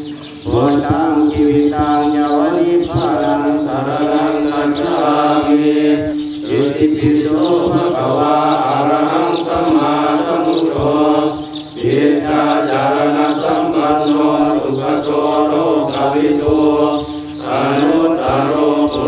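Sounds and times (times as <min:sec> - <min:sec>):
monks chanting: 0:00.0 - 0:19.0.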